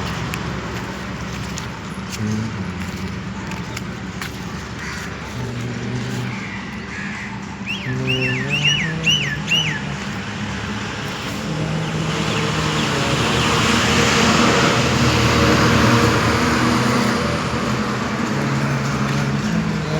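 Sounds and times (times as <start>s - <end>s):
road vehicle passing by: 0.0s - 19.9s.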